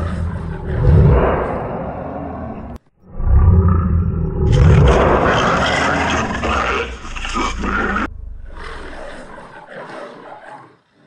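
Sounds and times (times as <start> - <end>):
lions growling and roaring: 0.0 - 11.0.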